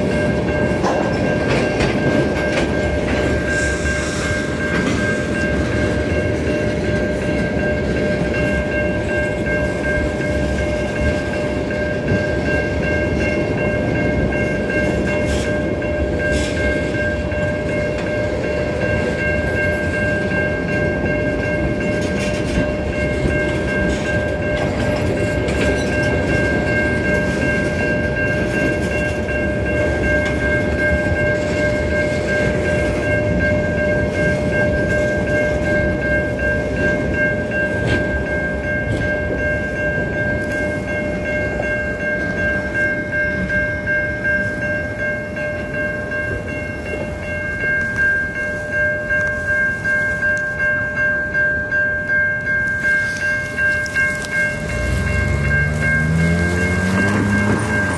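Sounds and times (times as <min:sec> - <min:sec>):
freight cars rumbling over rails: 0:00.0 - 0:49.1, 0:53.3 - 0:57.9
crossing warning bell ringing: 0:00.0 - 0:57.9.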